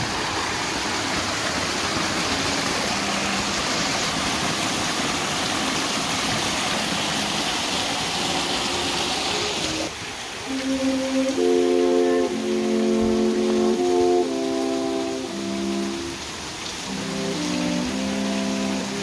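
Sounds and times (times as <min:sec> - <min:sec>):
water rushing down wooden flume: 0:00.0 - 0:19.0.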